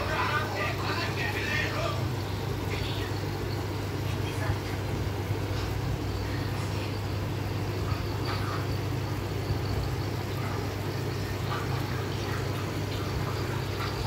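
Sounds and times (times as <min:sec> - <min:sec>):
air pump humming: 0:00.0 - 0:14.0.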